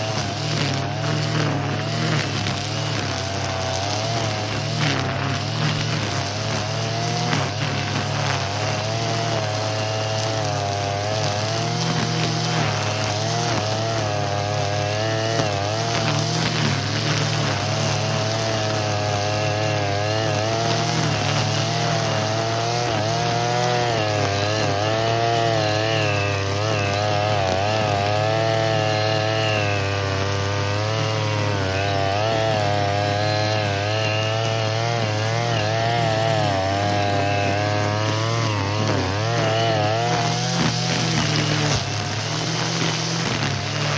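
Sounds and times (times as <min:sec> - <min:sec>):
brush cutter engine revving: 0:00.0 - 0:43.9.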